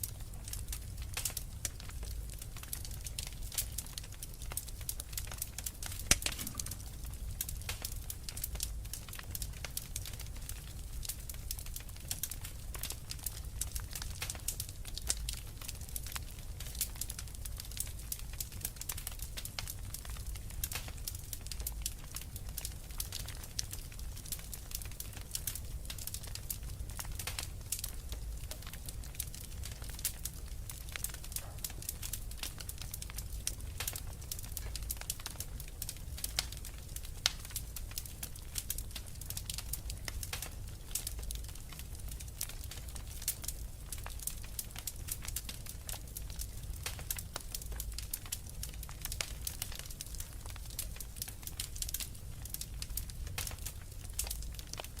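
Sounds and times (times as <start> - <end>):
low fire rumble: 0.0 - 55.0
wood fire crackling: 0.0 - 55.0.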